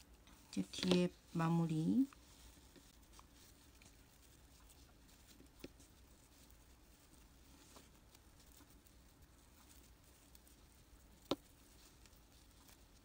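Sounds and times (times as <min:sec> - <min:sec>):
yarn rustling in hands: 0:00.0 - 0:13.0.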